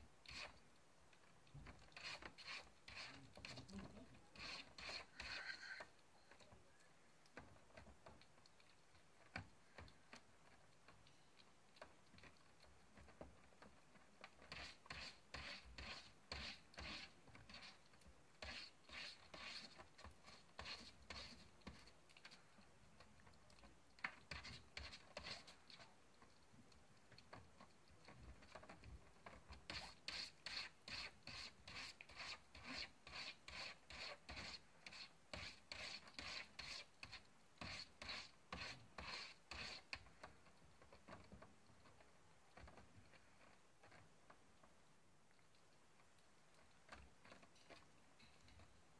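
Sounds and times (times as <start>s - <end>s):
kitten scratching food bowl: 0.0s - 48.9s.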